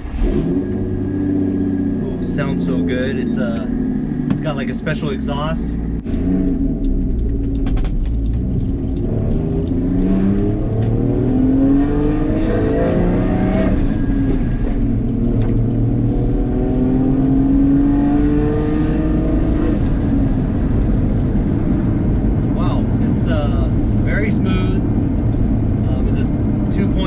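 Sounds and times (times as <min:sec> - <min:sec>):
car engine accelerating through gears: 0:00.0 - 0:27.0.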